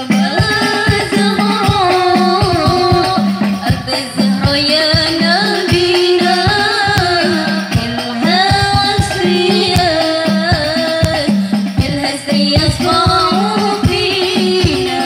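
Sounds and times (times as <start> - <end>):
frame drums beating: 0.0 - 15.0
woman singing devotional song: 0.0 - 15.0.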